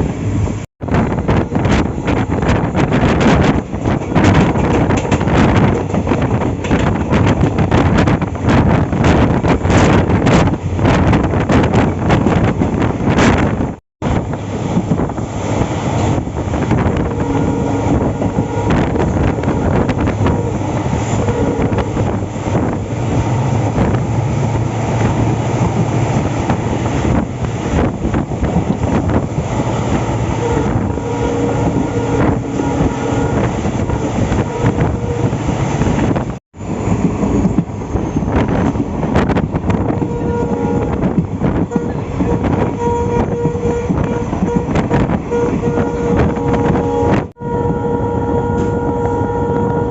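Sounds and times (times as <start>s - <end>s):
train coach rumbling on track: 0.0s - 49.9s
wind buffeting microphone: 0.0s - 49.9s.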